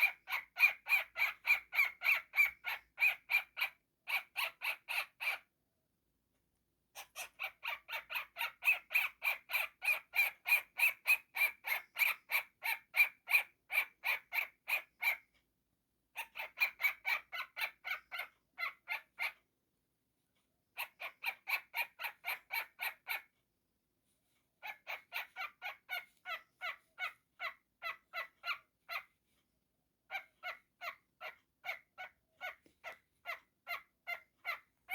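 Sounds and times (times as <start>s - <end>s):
cockatiel calling: 0.0s - 5.4s, 7.0s - 15.3s, 16.2s - 19.4s, 20.8s - 23.3s, 24.6s - 29.1s, 30.1s - 34.9s.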